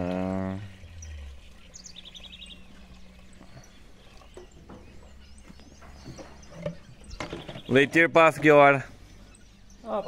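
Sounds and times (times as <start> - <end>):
bird chirping: 0.0 - 10.0
low steady hum: 0.0 - 10.0.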